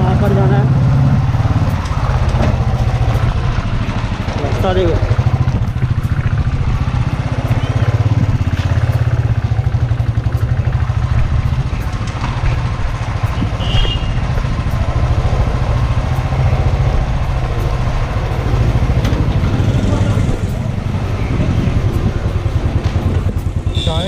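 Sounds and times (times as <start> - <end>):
motorcycle engine pulsing: 0.0 - 24.0.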